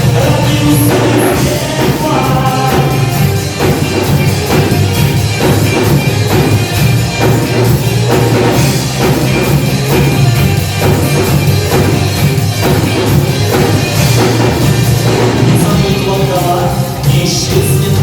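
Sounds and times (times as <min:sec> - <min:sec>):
bass line: 0:00.0 - 0:18.0
drum kit steady beat: 0:00.0 - 0:18.0
guitars: 0:00.0 - 0:18.0.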